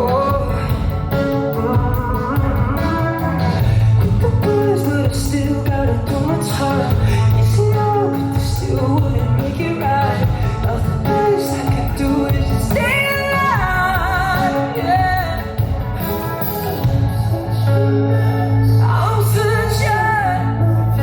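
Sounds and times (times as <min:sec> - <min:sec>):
pop-rock band playing: 0:00.0 - 0:21.0.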